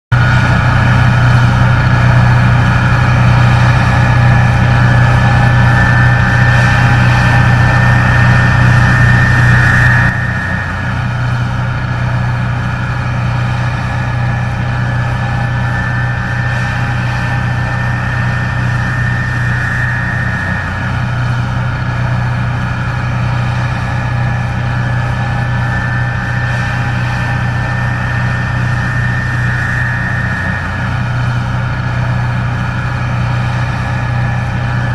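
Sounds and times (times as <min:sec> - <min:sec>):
combine harvester engine hum: 0:00.1 - 0:34.9
high machine whine: 0:00.1 - 0:34.9.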